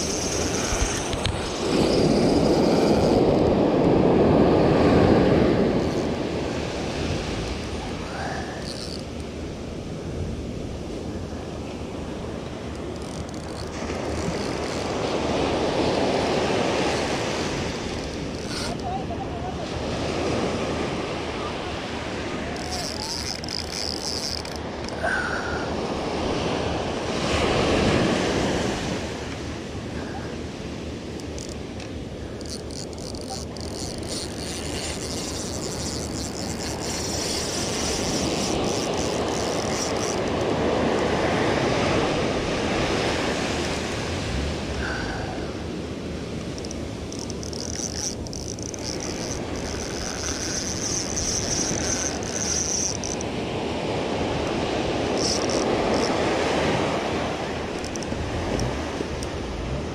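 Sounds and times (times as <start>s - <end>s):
ocean surf breaking on shore: 0.0s - 59.9s.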